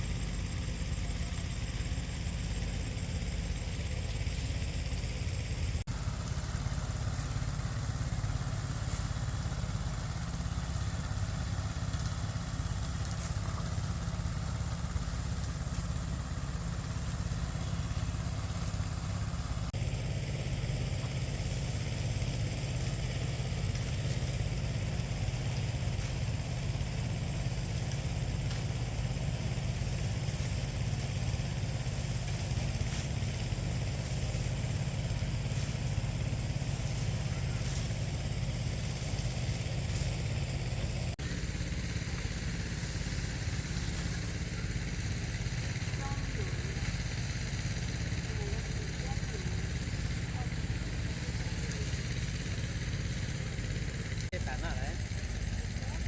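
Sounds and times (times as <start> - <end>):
engine running low rumble: 0.0 - 56.0.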